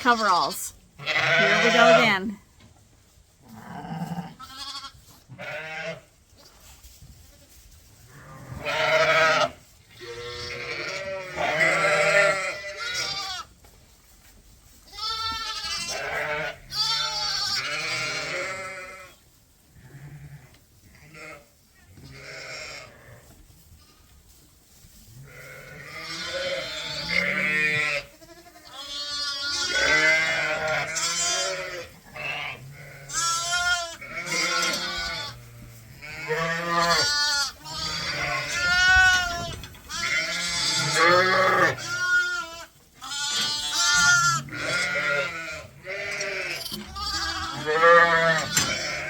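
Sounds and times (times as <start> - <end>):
sheep bleating: 0.0 - 2.4, 3.5 - 6.1, 8.2 - 13.5, 14.9 - 19.2, 19.8 - 21.5, 22.1 - 23.2, 25.3 - 49.0.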